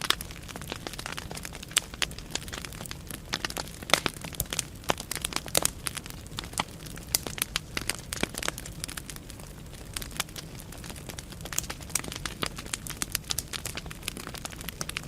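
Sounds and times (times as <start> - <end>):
firewood crackling: 0.0 - 15.0
low rumble of flame: 0.0 - 15.0.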